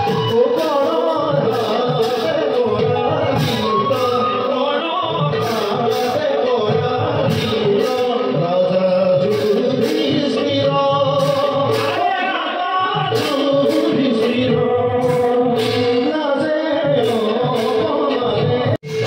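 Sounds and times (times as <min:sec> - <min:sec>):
percussion beat: 0:00.0 - 0:19.0
person singing: 0:00.0 - 0:19.0.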